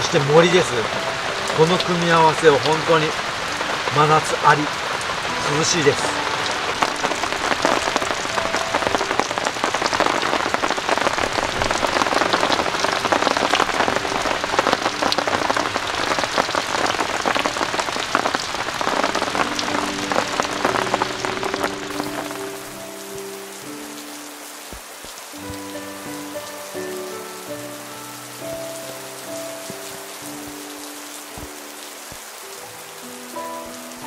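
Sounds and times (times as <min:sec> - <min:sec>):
rain pattering on a tarp: 0:00.0 - 0:34.0
soft music: 0:00.0 - 0:34.0.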